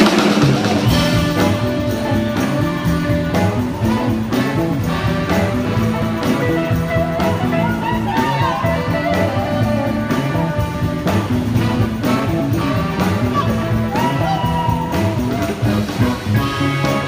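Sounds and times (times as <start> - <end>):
bass line: 0.0 - 17.0
drum kit: 0.0 - 17.0
electric guitars: 0.0 - 17.0
saxophone and trumpets: 0.0 - 17.0.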